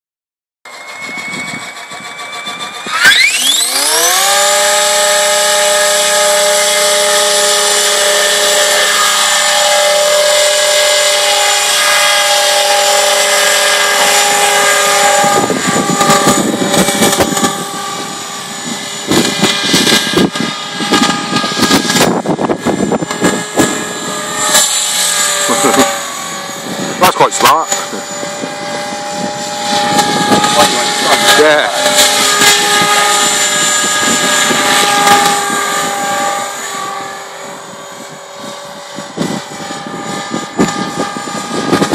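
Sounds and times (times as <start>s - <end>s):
rc helicopter motor whine: 0.7s - 41.9s.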